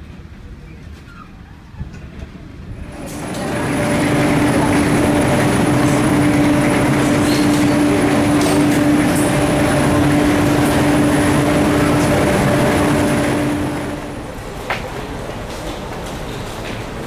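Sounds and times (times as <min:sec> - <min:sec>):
electric train hum: 0:02.0 - 0:17.0.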